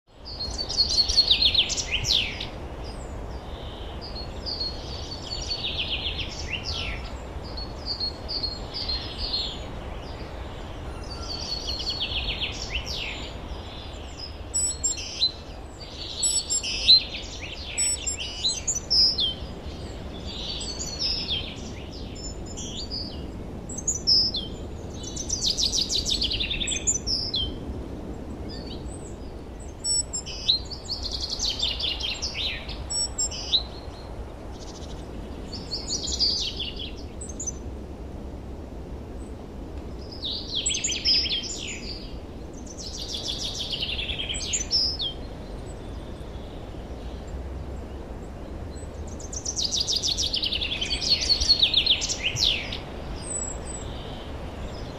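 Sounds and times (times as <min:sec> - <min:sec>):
songbirds trilling: 0:00.1 - 0:37.8, 0:38.9 - 0:54.9
low background hiss: 0:00.1 - 0:54.9.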